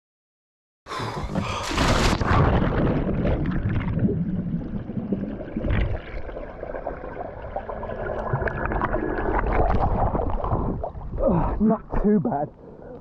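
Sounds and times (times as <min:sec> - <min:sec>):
sea water splashing and gurgling: 0:01.0 - 0:11.6.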